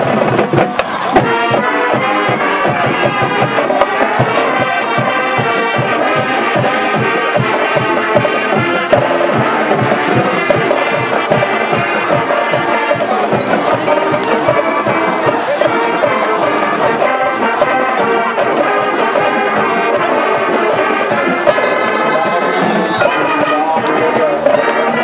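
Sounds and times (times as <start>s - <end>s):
driving drum beat: 0.0s - 25.0s
marching band brass melody: 0.0s - 25.0s.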